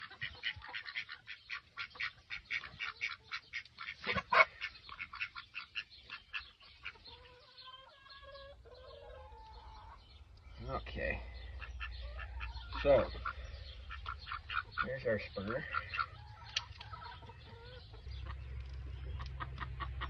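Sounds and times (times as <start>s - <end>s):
poultry calling: 0.0s - 20.0s.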